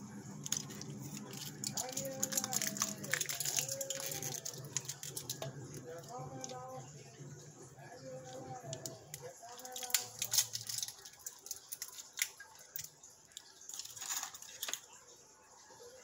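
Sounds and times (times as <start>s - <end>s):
turtles clicking on rocks: 0.4s - 6.6s, 8.2s - 14.9s.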